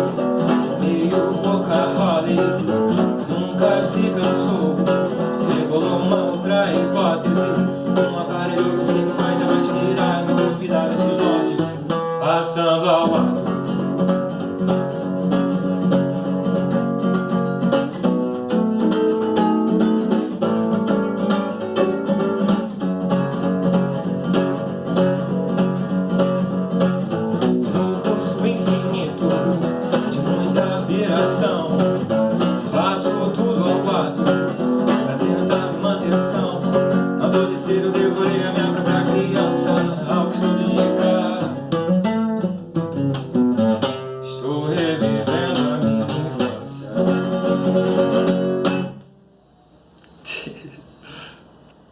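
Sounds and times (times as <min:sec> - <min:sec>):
plucked acoustic guitar music: 0:00.0 - 0:49.3.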